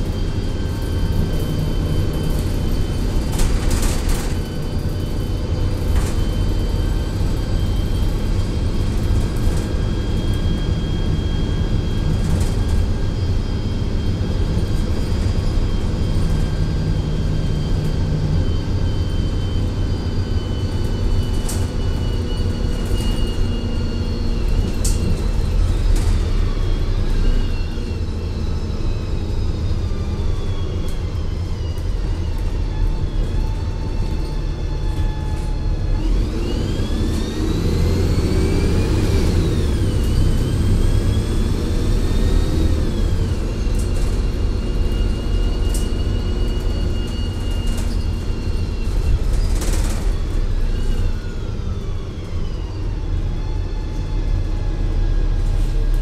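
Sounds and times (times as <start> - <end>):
bus diesel engine drone: 0.0 - 56.0
transmission whine: 0.0 - 56.0.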